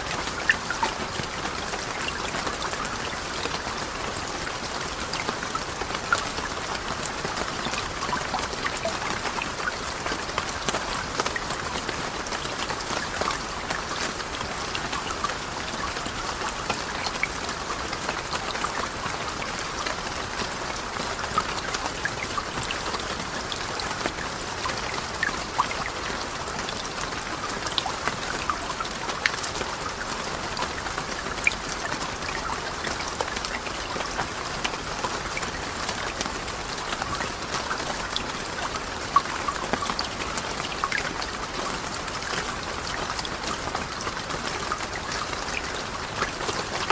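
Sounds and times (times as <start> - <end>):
rain falling steadily: 0.0 - 46.9.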